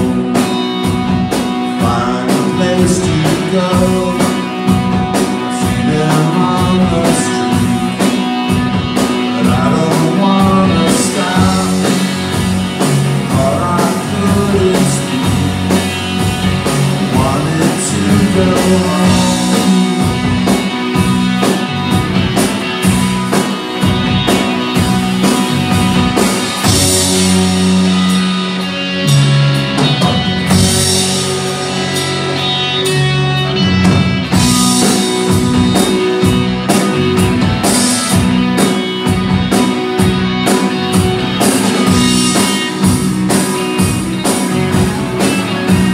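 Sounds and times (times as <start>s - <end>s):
rock band playing live: 0.0s - 45.9s
steady drumbeat: 0.0s - 45.9s.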